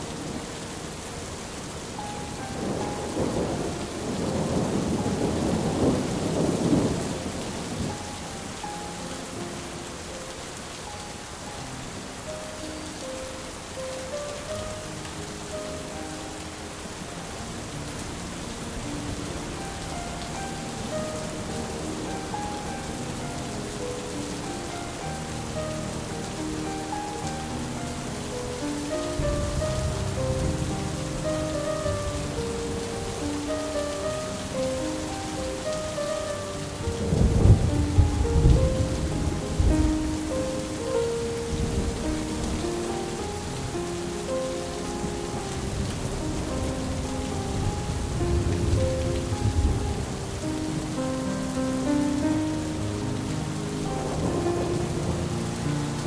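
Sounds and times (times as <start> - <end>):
slow melody of held notes: 0.0 - 56.0
steady rain: 0.0 - 56.0.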